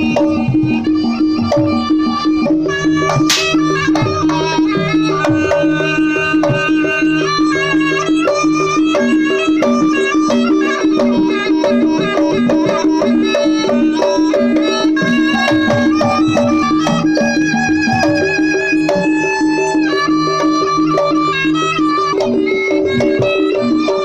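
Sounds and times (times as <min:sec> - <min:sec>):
gamelan lead melody: 0:00.0 - 0:24.0
struck pitched percussion pattern: 0:00.0 - 0:24.0.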